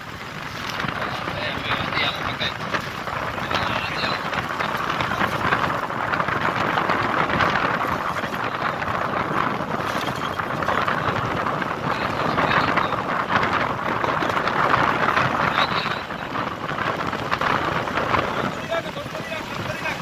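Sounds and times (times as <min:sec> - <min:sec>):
car driving across sand: 0:00.0 - 0:20.0
wind rushing over microphone: 0:00.0 - 0:20.0.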